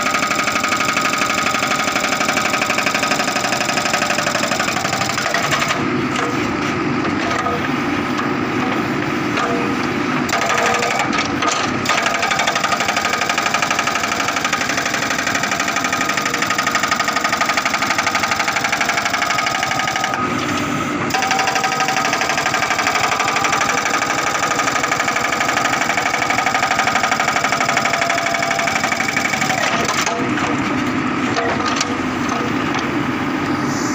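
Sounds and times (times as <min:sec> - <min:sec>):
hydraulic rock breaker hammering: 0:00.0 - 0:33.0
diesel engine running: 0:00.0 - 0:33.9.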